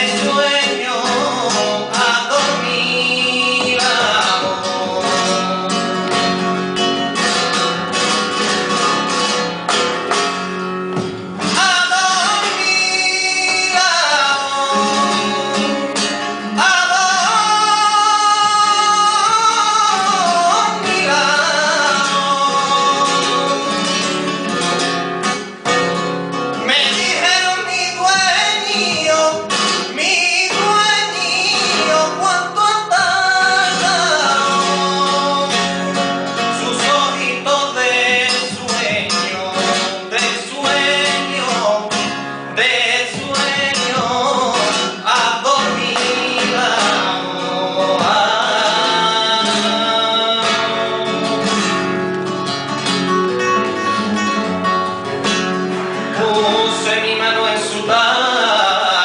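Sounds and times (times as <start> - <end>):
flamenco guitar: 0.0 - 59.0
man singing flamenco: 0.0 - 59.0.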